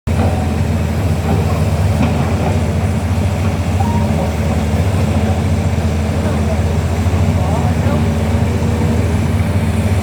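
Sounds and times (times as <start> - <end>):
diesel engine droning: 0.1 - 10.0.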